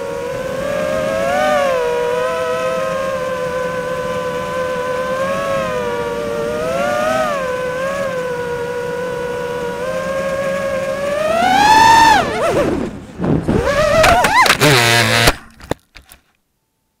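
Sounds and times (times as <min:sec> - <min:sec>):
quadcopter motors whining: 0:00.0 - 0:16.2
harsh buzz in grass: 0:00.0 - 0:16.3.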